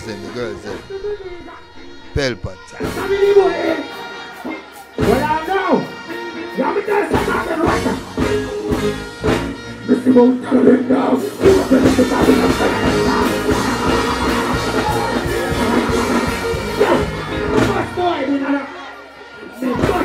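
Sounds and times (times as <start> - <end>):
dancehall music over loudspeakers: 0.0 - 20.0.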